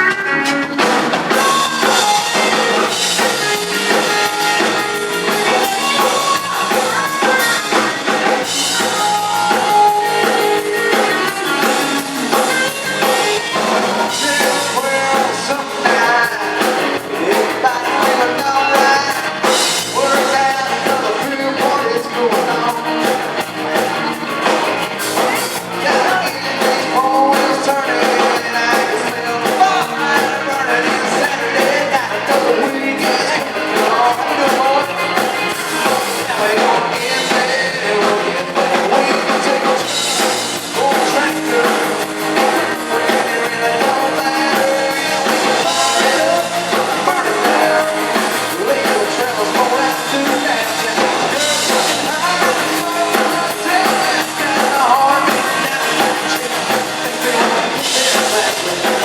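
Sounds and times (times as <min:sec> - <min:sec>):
drums: 0:00.0 - 0:59.0
guitar: 0:00.0 - 0:59.0
man singing: 0:00.0 - 0:59.0.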